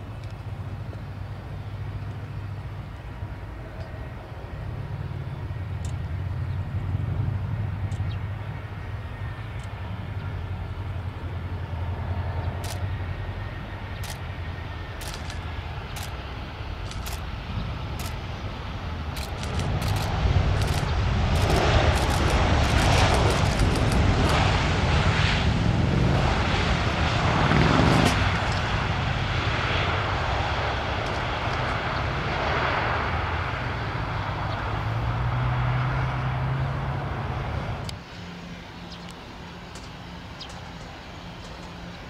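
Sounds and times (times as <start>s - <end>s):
jet engines at high power: 0.0s - 42.0s.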